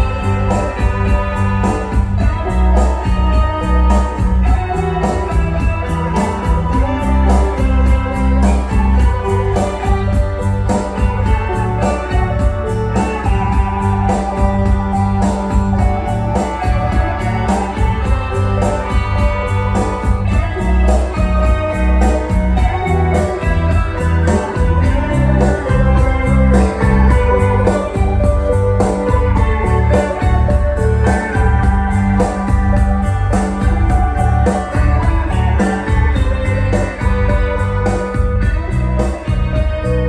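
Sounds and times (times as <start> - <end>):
guitar: 0.0 - 40.0
steady drum beat: 0.0 - 40.0.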